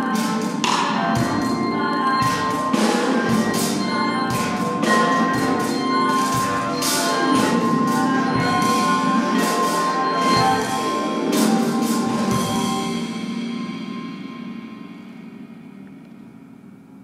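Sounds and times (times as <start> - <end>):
vibraphone ringing strikes: 0.0 - 15.6
long held high note: 0.0 - 15.8
improvised ensemble music: 0.0 - 16.7.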